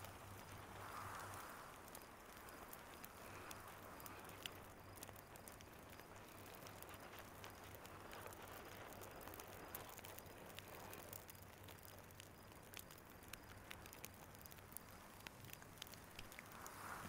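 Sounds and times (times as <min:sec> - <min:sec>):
faint ticks: 0:00.0 - 0:17.0.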